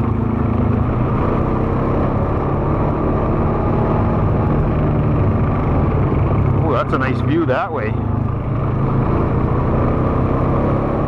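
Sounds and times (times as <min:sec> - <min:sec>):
atv engine droning: 0:00.0 - 0:11.0.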